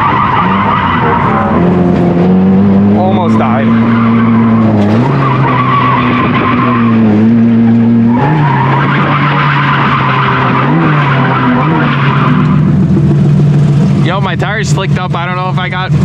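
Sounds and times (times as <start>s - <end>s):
rotary engine at high revs: 0.0s - 16.0s
tires skidding: 0.0s - 16.0s.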